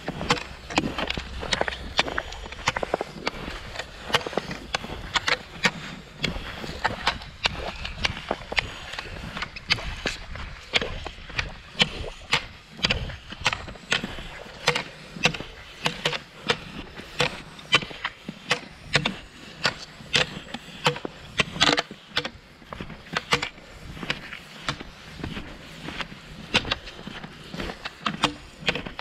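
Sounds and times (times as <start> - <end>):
ski poles clicking in snow: 0.0 - 29.0
skis scraping over snow: 0.0 - 29.0.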